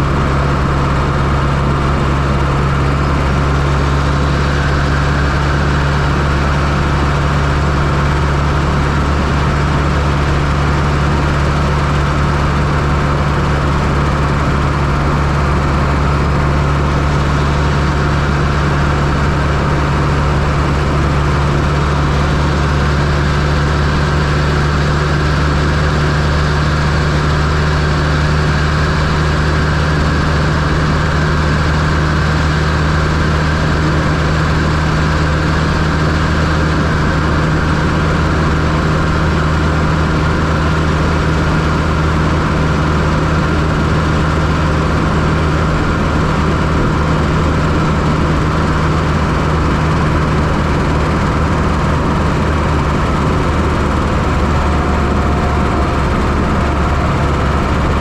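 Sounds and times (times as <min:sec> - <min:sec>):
turbocharged engine running: 0:00.0 - 0:58.0.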